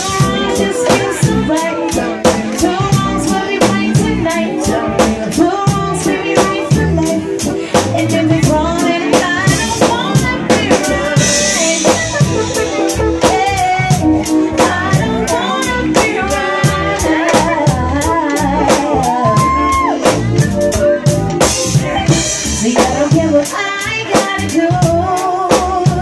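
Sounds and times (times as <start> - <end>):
drums on a steady beat: 0.0 - 26.0
live band playing: 0.0 - 26.0
woman singing: 0.0 - 26.0.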